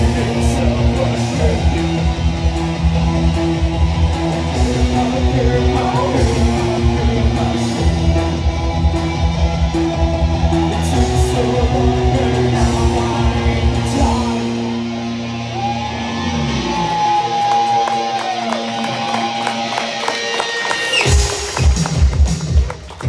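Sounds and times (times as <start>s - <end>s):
electric guitar droning: 0.0s - 21.7s
bass guitar: 0.0s - 23.0s.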